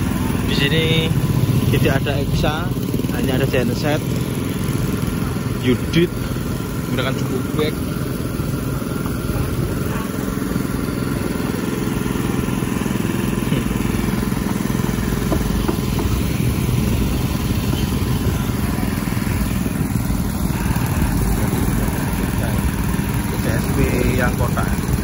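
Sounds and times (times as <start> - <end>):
petrol water pump running: 0.0 - 25.0.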